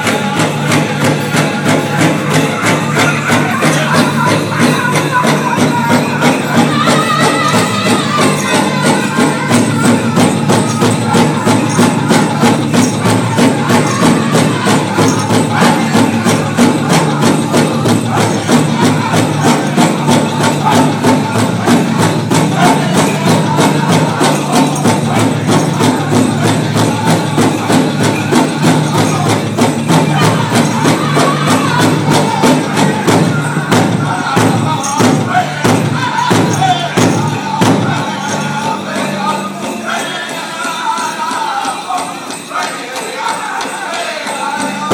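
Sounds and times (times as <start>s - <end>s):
men singing high: 0.0s - 44.9s.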